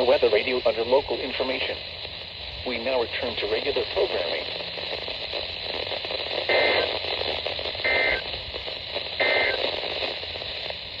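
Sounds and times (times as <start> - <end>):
radio static: 0.0 - 11.0
raspy digital data bursts: 0.0 - 11.0.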